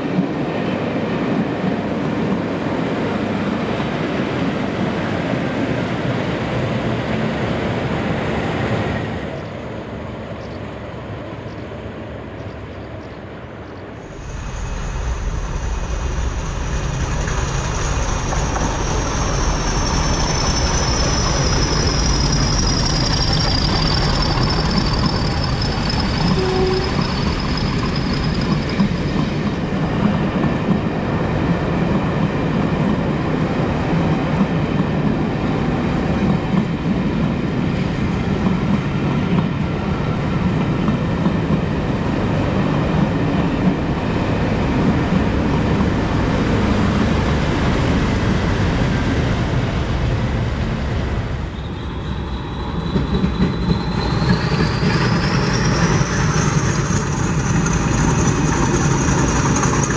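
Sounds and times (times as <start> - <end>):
passenger train rumbling past: 0.0 - 59.9.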